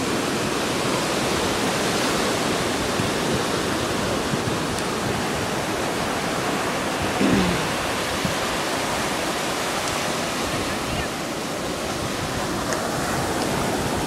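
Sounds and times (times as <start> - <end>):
surf washing over sand: 0.0 - 14.0.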